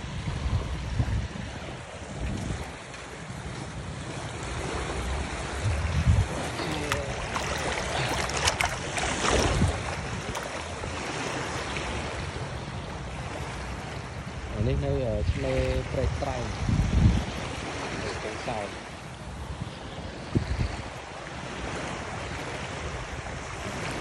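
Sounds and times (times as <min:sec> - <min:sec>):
wind gusting on microphone: 0:00.0 - 0:18.6, 0:19.2 - 0:24.0
small waves lapping on sand: 0:00.0 - 0:24.0.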